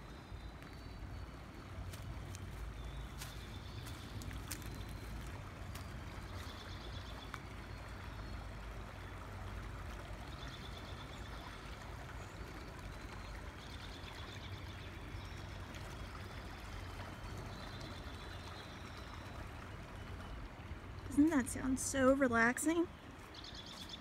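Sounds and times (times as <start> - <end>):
creek running over stones: 0.0 - 24.0.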